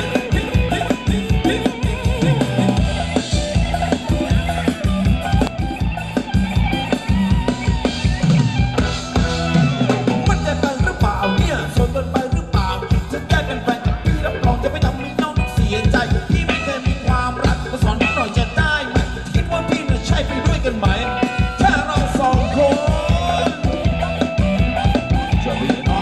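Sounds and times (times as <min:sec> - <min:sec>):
bass line: 0:00.0 - 0:26.0
drum kit fast beat: 0:00.0 - 0:26.0
melody instruments: 0:00.0 - 0:26.0.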